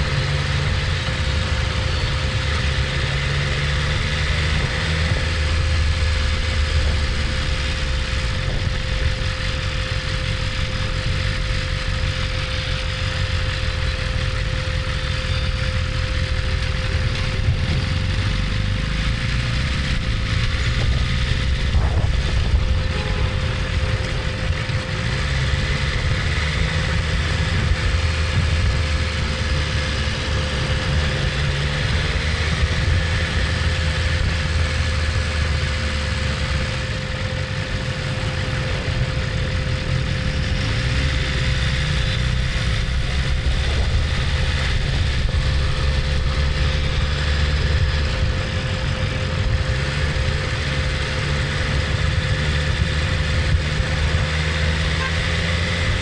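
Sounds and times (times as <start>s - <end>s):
motorcycle engine running: 0.0s - 56.0s
steady hum: 0.0s - 56.0s.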